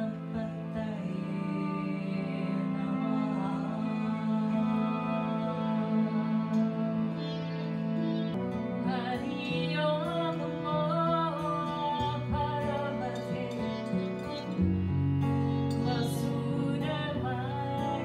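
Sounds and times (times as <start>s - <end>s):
woman singing: 0.0s - 7.4s, 8.2s - 14.8s, 15.6s - 18.0s
harmonium drone: 0.0s - 18.0s
strummed acoustic guitar: 0.0s - 18.0s.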